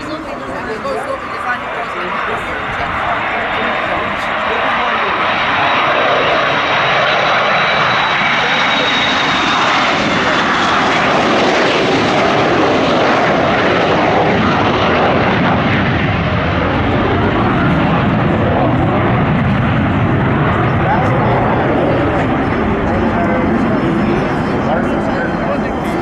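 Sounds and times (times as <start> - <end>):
aircraft engine rumble: 0.0 - 26.0.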